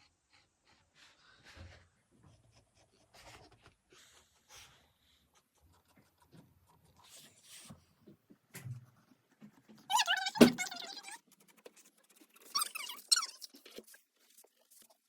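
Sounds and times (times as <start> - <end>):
pencil scratching on paper: 0.0 - 7.9, 8.9 - 15.0.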